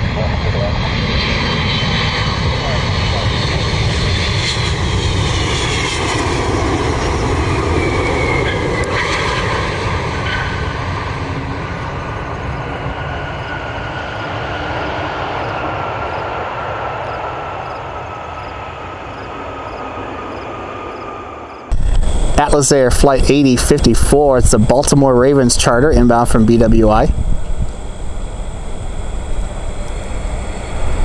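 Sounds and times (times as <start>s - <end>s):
jet engine whine: 0.0s - 31.0s.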